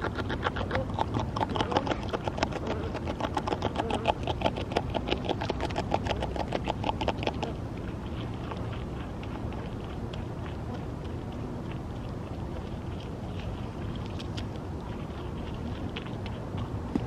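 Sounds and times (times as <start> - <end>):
beaver chewing leaves: 0.0 - 17.0
low steady rumble: 0.0 - 17.0
wet crunching: 0.0 - 17.0.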